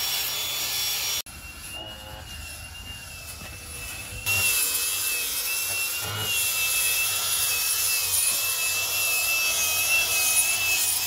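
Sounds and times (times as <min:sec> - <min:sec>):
angle grinder motor whining: 0:00.0 - 0:11.0
sanding disc scouring wood: 0:00.0 - 0:11.0.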